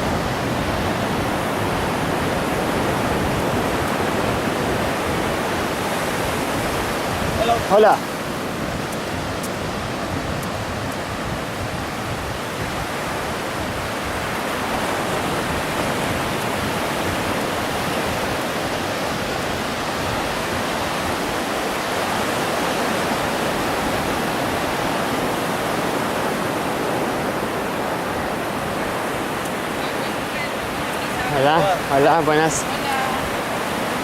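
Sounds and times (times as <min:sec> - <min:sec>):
ocean surf roaring: 0:00.0 - 0:34.0.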